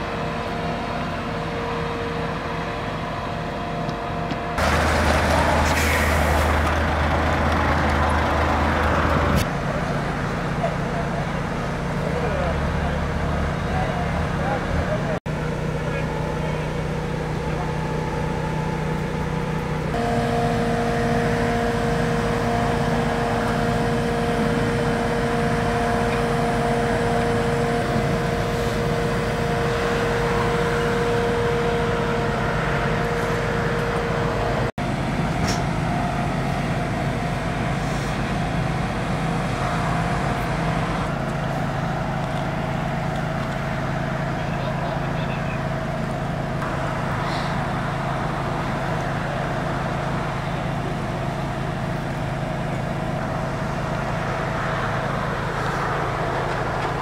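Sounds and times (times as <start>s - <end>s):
truck engine droning: 0.0s - 57.0s.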